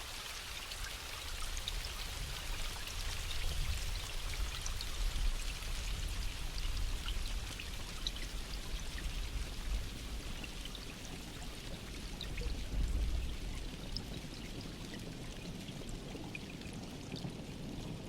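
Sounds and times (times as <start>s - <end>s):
rain drops ticking: 1.7s - 18.0s.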